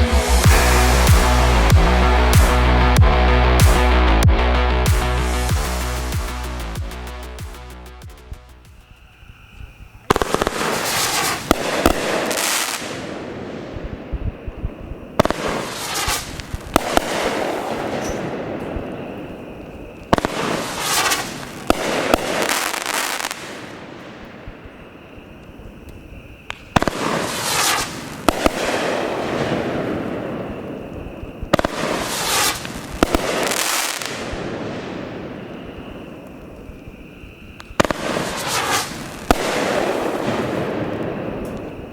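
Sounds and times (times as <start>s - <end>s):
crackling firework bursts: 4.8s - 41.9s.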